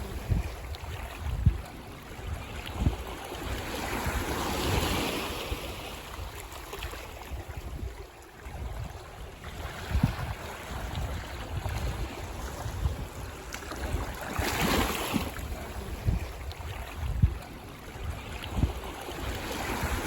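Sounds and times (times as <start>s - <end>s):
wind thumps on microphone: 0.0s - 3.1s, 6.2s - 20.0s
ocean waves on a beach: 0.0s - 20.0s.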